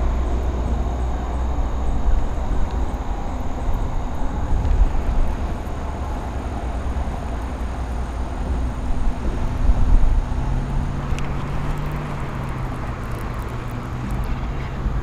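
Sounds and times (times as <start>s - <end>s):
faint steady hum: 0.0s - 15.0s
wind buffeting microphone: 0.0s - 15.0s.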